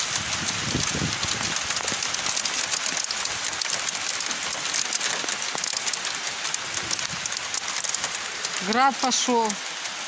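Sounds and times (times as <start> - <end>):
hail and rain on car: 0.0 - 10.0.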